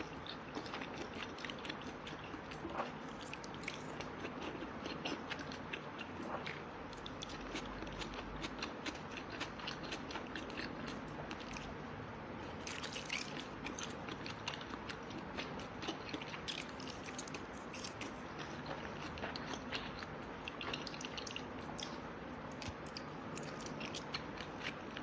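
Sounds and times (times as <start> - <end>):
chewing and crunching food: 0.0 - 25.0.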